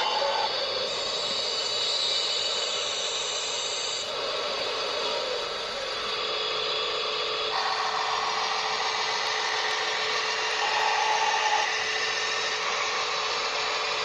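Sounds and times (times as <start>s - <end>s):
second motor tone: 0.0s - 14.0s
small electric motors whining: 0.0s - 14.0s.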